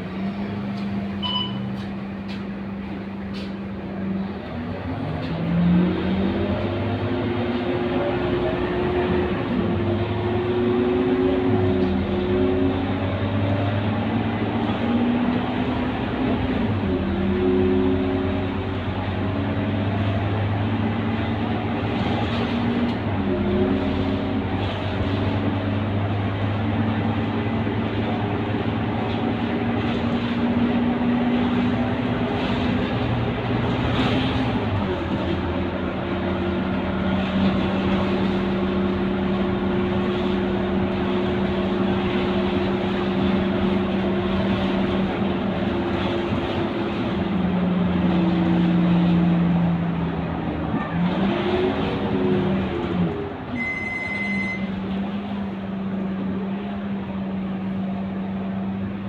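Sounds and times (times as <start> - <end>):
bus engine drone with rising whine: 0.0 - 59.0.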